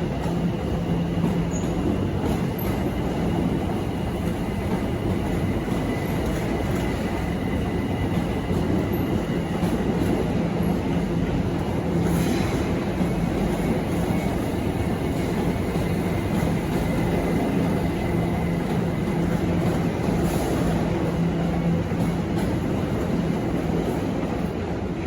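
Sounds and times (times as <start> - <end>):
electric train humming: 0.0 - 25.0.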